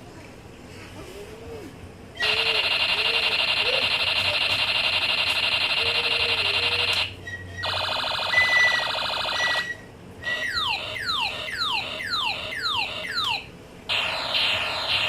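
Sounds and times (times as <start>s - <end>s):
electronic toy buzzing tone: 2.2s - 15.0s
pulsing buzz with high whistle: 2.2s - 15.0s.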